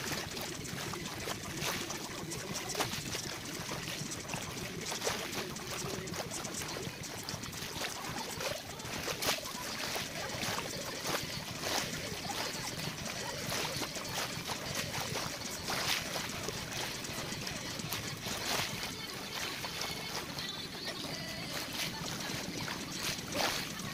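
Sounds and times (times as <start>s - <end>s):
small water splashes: 0.0s - 23.9s
water lapping on shoreline: 0.0s - 23.9s.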